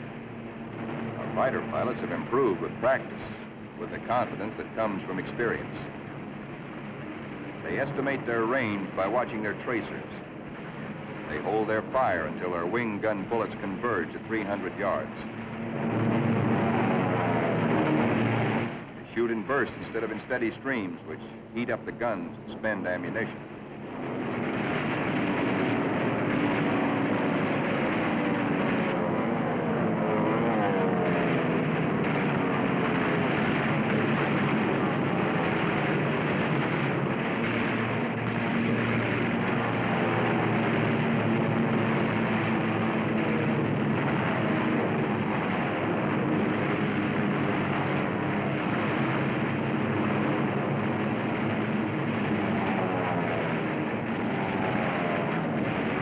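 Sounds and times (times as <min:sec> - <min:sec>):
propeller plane engines droning: 0:00.0 - 0:56.0.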